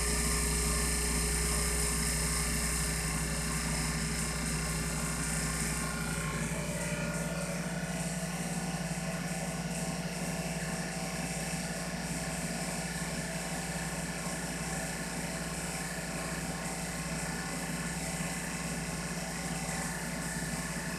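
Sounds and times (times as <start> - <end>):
vacuum pump droning: 0.0 - 20.9.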